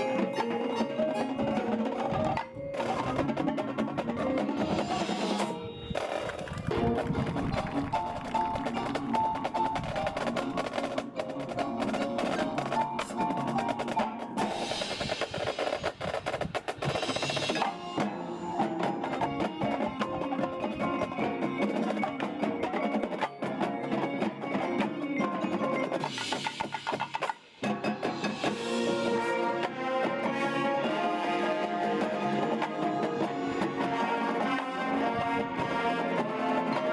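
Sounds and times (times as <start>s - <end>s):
drum and mallet strokes: 0.0s - 36.9s
marching band playing: 0.0s - 36.9s.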